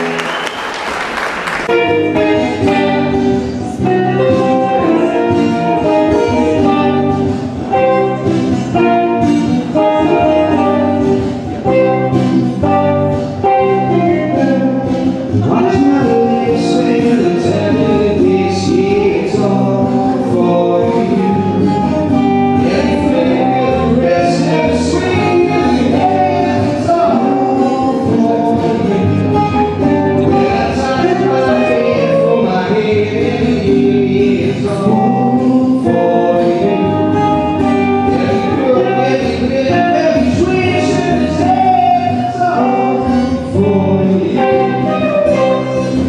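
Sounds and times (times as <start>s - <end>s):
live band with singing: 0.0s - 46.0s.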